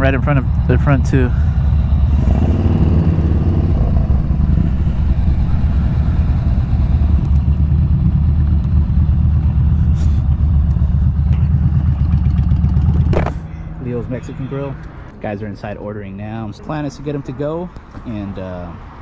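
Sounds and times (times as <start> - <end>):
motorcycle engines idling: 0.0 - 18.6.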